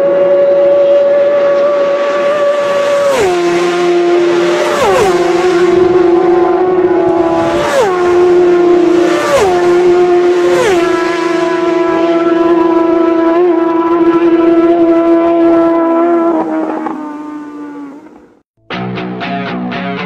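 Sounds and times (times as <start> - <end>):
racing motorbikes passing: 0.0 - 18.4.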